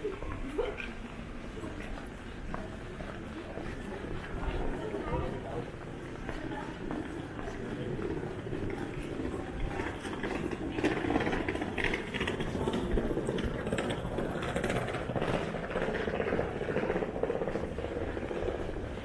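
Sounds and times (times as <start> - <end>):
footsteps on cobblestones: 0.0 - 19.0.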